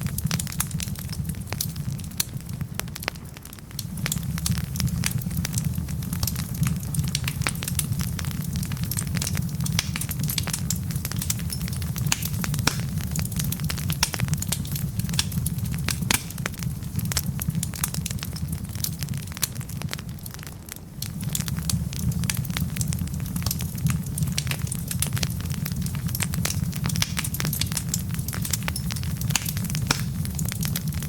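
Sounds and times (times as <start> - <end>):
flames rumbling: 0.0 - 31.0
logs crackling and popping: 0.0 - 31.0.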